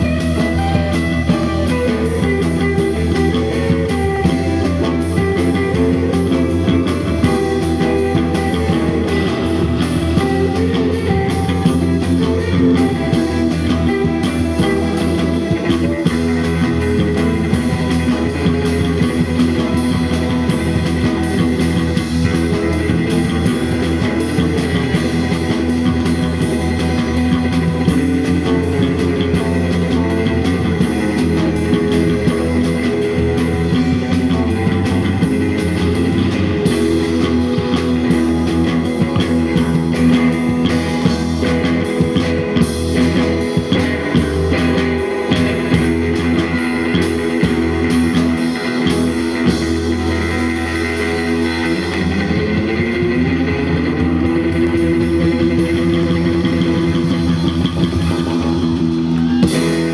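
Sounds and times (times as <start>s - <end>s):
rock music with guitar and drums: 0.0s - 59.9s.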